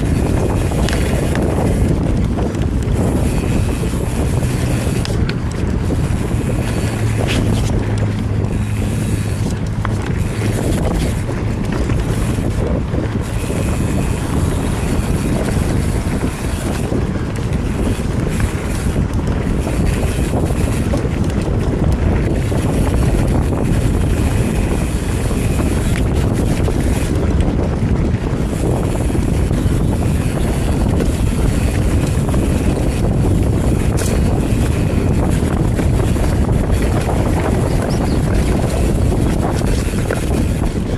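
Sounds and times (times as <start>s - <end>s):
bike tyres on dirt trail: 0.0s - 40.9s
wind noise on microphone: 0.0s - 40.9s.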